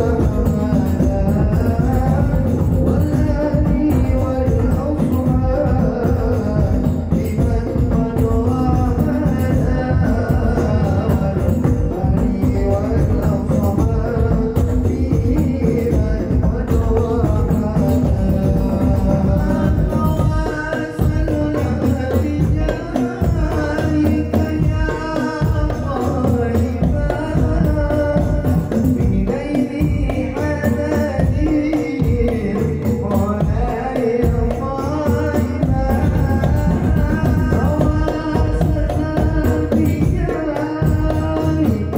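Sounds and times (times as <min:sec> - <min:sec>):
frame drums and bass drums: 0:00.0 - 0:41.9
voices singing: 0:00.0 - 0:41.9.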